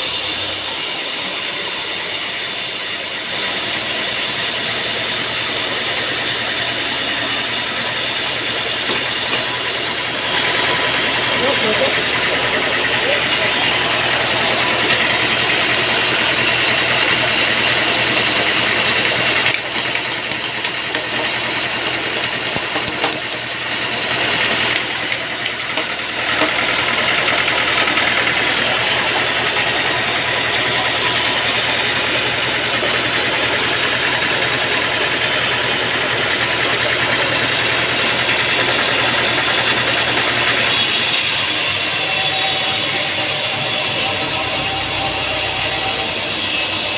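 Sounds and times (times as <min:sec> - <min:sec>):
sawmill machinery drone: 0:00.0 - 0:46.9.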